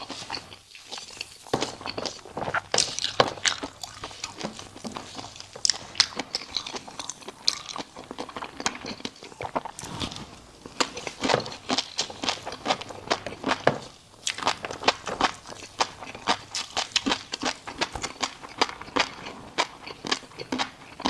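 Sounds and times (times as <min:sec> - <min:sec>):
crunchy eating and chewing: 0:00.0 - 0:21.0.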